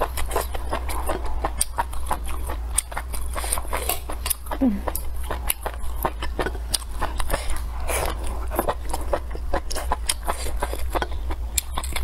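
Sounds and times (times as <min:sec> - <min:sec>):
mouth chewing and smacking: 0:00.0 - 0:12.0.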